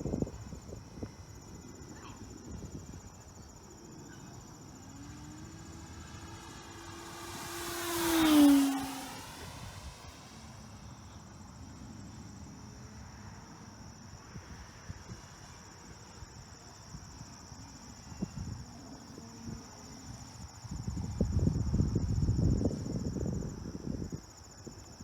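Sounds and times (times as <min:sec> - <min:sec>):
wind rumble on microphone: 0:00.0 - 0:10.9, 0:14.1 - 0:25.0
crickets chirring: 0:00.0 - 0:25.0.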